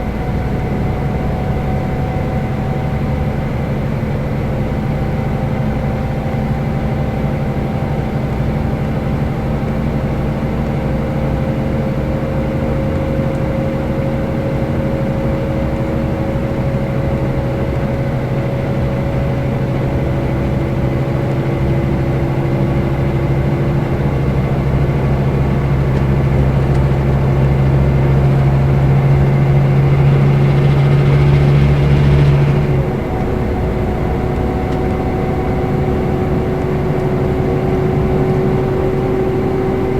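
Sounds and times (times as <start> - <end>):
diesel bus engine pulling: 0.0 - 39.9.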